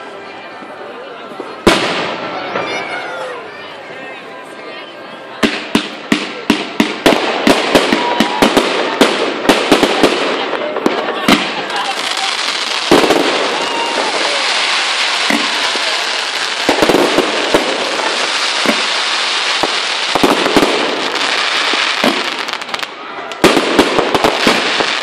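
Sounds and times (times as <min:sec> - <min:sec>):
fireworks crackling and popping: 0:01.4 - 0:03.3, 0:05.4 - 0:25.0
firework bangs: 0:01.6 - 0:02.9, 0:05.4 - 0:25.0.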